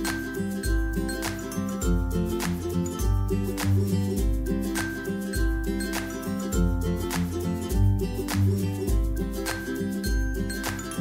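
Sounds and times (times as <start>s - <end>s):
instrumental music with beat: 0.0s - 11.0s.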